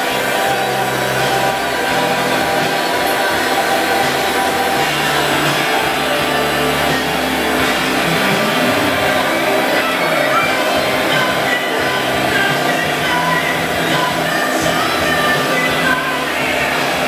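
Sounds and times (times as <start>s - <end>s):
background music with sustained notes: 0.0s - 17.0s.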